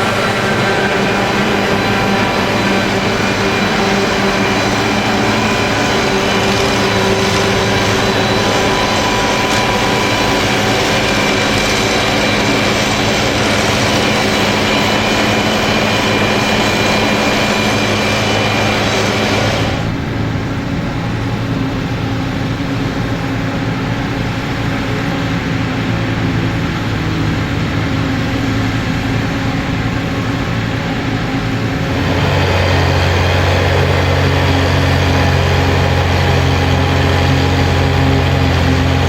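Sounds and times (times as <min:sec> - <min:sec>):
heavy engine drone: 0:00.0 - 0:39.0
machinery whining: 0:00.0 - 0:39.0.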